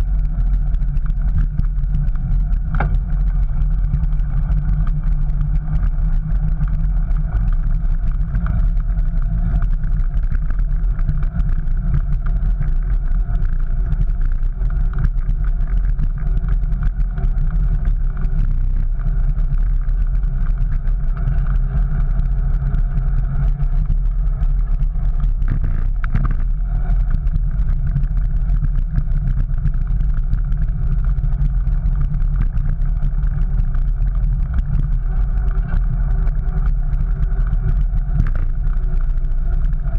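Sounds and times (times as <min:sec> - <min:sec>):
wind and ride vibration rumble: 0:00.0 - 0:39.9.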